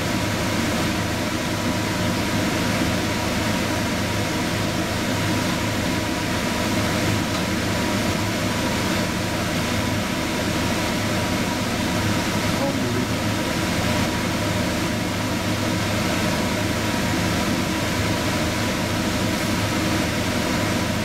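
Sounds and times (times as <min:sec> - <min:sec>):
syrup boiling and bubbling: 0:00.0 - 0:21.0.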